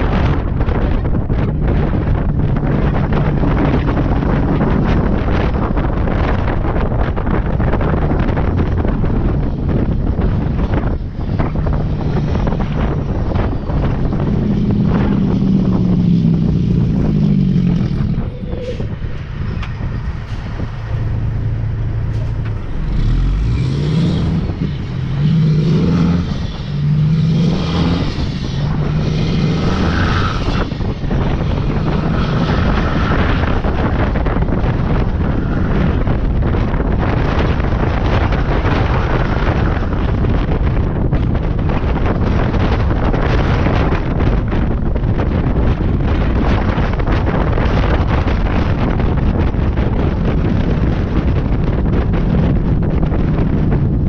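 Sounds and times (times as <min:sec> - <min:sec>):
diesel truck engine revving: 0:00.0 - 0:54.0
road noise: 0:00.0 - 0:54.0
wind: 0:00.0 - 0:54.0.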